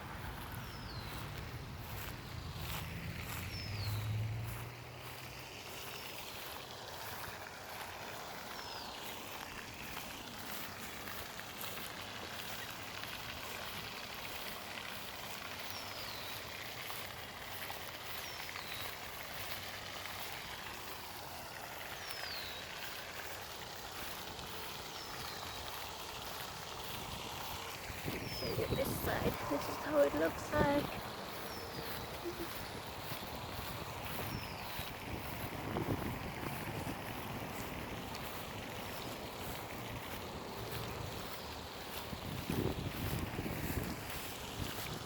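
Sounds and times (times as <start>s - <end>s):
distant road traffic hiss: 0.0s - 45.0s.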